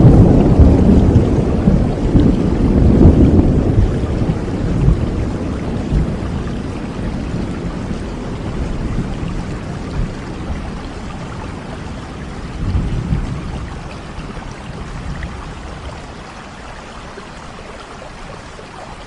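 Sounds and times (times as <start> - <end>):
low rumble of thunder: 0.0 - 16.6
steady rain: 0.0 - 19.0.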